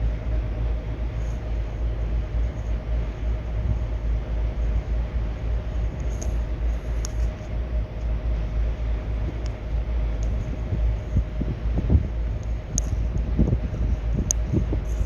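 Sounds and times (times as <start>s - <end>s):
faint steady whine: 0.0s - 15.0s
ferry engine running: 0.0s - 15.0s
wind buffeting microphone: 0.0s - 15.0s.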